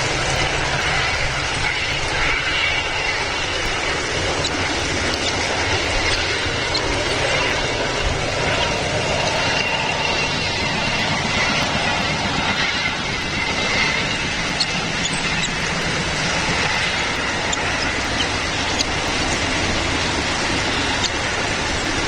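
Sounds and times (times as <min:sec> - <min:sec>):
rushing background noise: 0:00.0 - 0:22.0
faint high squeaks: 0:00.3 - 0:20.0.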